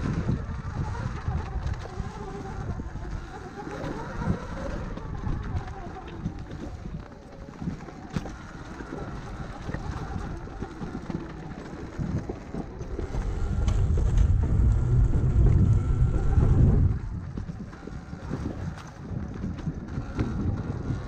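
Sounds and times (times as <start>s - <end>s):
electric motor whine: 0.0s - 21.0s
tyre and drivetrain noise: 0.0s - 21.0s
wind buffeting microphone: 0.0s - 21.0s.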